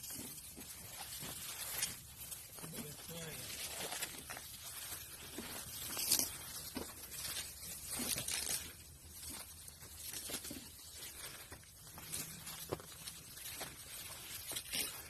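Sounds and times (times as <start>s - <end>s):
elephants tearing up grass: 0.0s - 15.0s.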